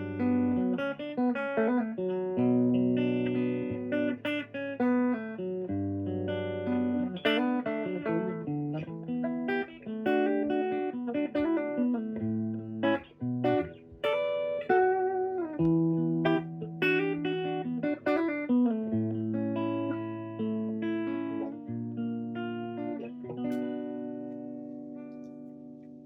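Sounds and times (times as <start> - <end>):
clean electric guitar chords: 0.0 - 26.0.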